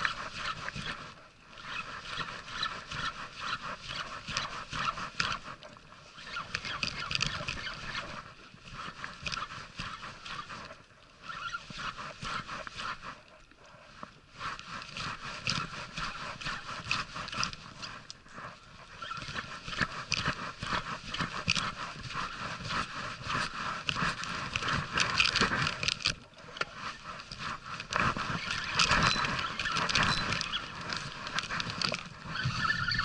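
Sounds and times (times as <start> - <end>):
fishing reel clicking and scraping: 0.0 - 13.3, 14.4 - 33.0.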